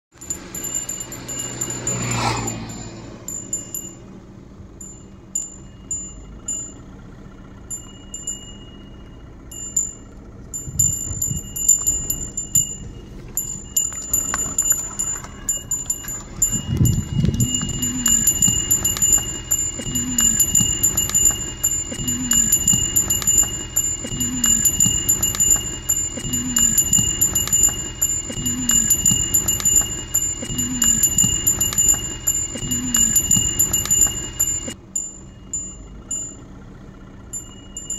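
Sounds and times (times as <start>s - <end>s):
ox bell ringing: 0.1s - 36.6s, 37.3s - 37.9s.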